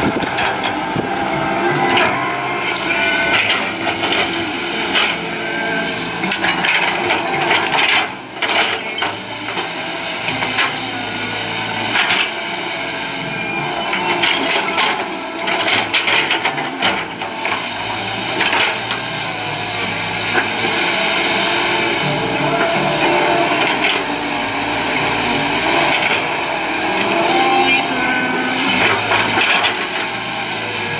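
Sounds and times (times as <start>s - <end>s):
excavator diesel engine under load: 0.0s - 30.9s.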